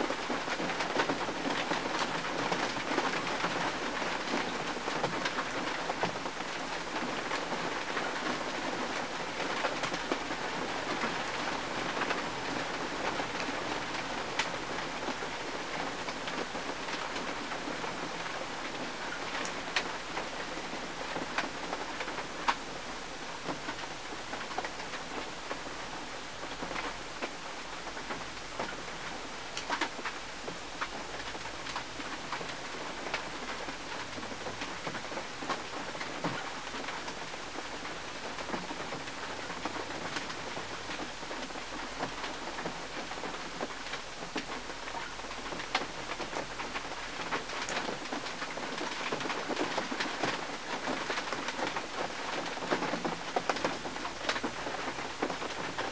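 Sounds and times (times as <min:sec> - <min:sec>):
rain on a windshield: 0:00.0 - 0:55.9.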